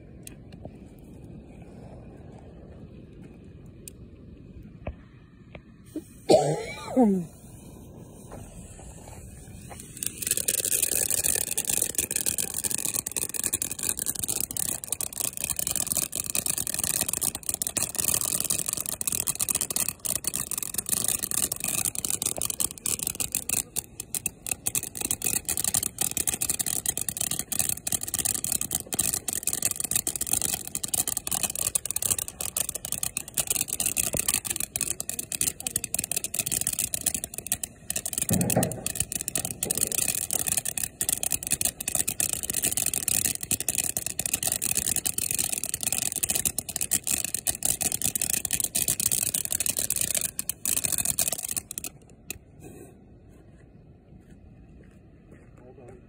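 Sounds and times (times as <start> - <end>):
firework hissing and crackling: 5.8 - 52.9.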